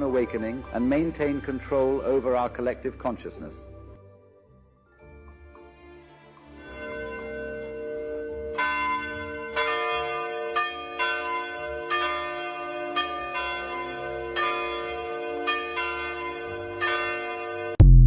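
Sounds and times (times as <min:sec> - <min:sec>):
church bells ringing: 0:00.0 - 0:03.6, 0:06.5 - 0:17.8.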